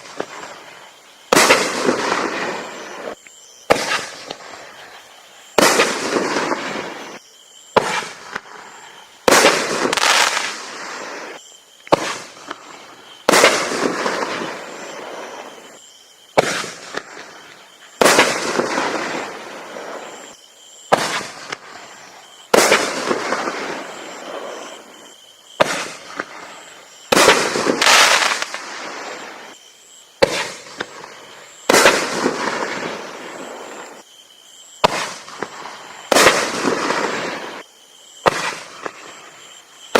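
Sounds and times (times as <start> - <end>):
firework bangs: 1.3 - 4.9, 5.5 - 29.6, 30.2 - 34.0, 34.8 - 37.6, 38.2 - 39.4.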